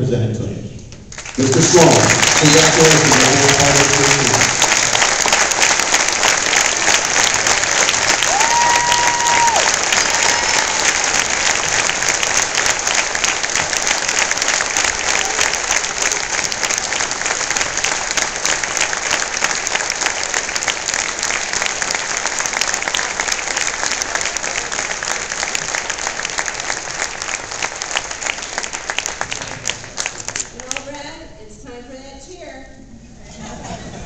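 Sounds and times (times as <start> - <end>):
crowd applause: 1.1 - 30.8.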